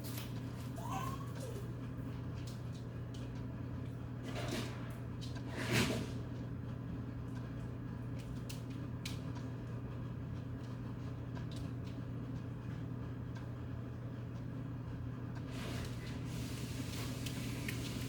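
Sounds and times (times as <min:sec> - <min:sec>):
low household hum: 0:00.0 - 0:18.0.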